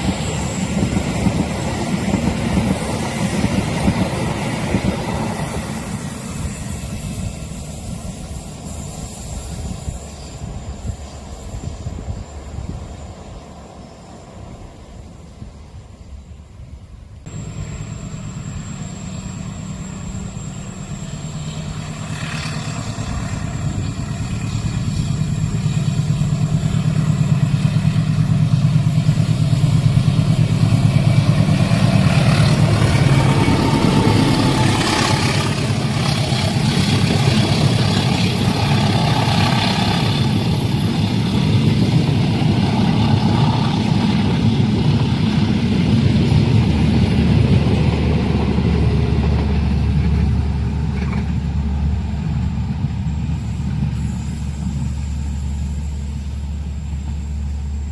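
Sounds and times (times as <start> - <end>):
diesel locomotive engine rumble: 0.0 - 57.9
train running by: 0.0 - 57.9.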